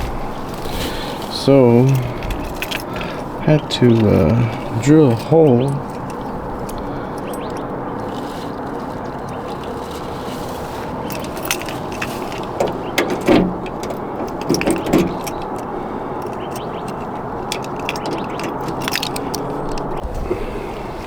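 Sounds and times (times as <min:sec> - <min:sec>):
steady background noise: 0:00.0 - 0:21.0
metallic clicks and rattles: 0:01.4 - 0:09.8, 0:11.0 - 0:20.0.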